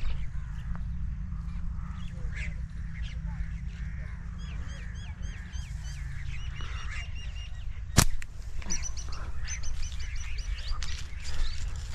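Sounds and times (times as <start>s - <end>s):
birds chirping: 0.0s - 11.9s
steady low rumble: 0.0s - 11.9s.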